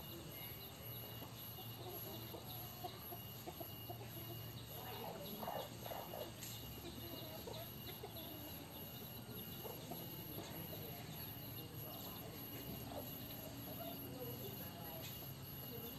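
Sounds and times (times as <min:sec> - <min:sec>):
chickens clucking: 0:00.0 - 0:15.9.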